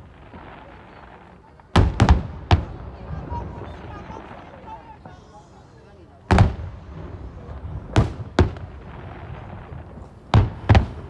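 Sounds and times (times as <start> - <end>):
firework shells booming: 0.0 - 4.4, 6.3 - 11.0.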